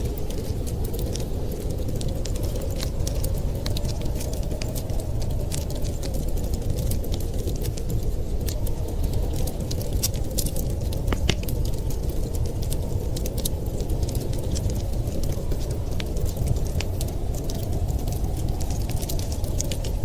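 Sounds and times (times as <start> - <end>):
low rumble of wind: 0.0 - 20.0
wood fire crackling and popping: 0.0 - 20.0.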